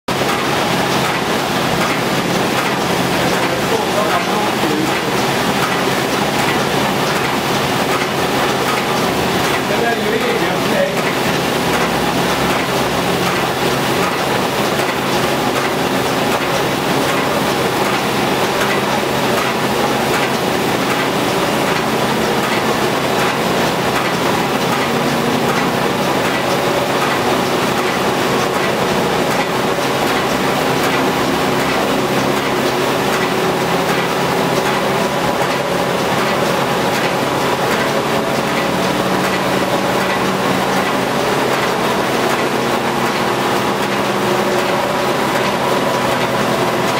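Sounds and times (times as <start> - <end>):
planer machine rattling and humming: 0.1 - 46.9.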